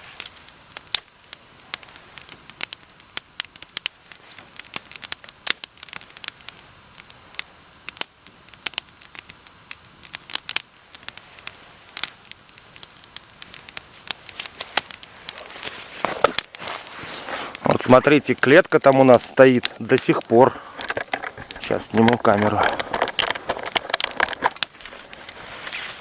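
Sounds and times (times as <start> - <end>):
campfire crackling and popping: 0.0 - 26.0
faint fire hiss: 0.0 - 26.0.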